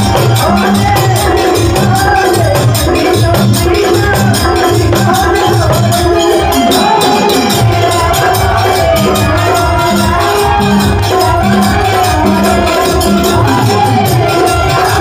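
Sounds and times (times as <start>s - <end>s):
dholak drum beat: 0.0s - 15.0s
electronic keyboards: 0.0s - 15.0s
jingling shaker percussion: 0.0s - 15.0s
man singing: 0.0s - 15.0s.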